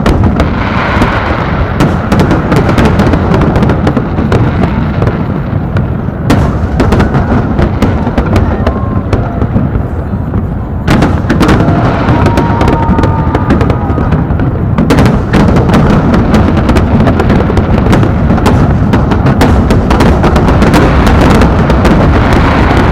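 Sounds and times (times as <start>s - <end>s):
fireworks booming: 0.0s - 22.9s
sharp firework cracks: 0.0s - 22.9s.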